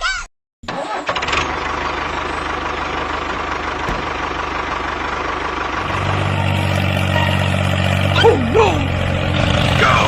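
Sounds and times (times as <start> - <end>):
engine idling with low knocking: 1.2 - 10.0.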